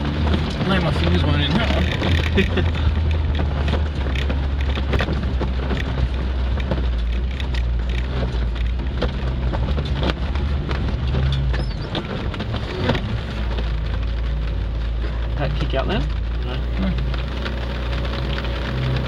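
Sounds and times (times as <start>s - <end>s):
body rattling clicks and knocks: 0.0s - 19.0s
engine low drone: 0.0s - 19.0s.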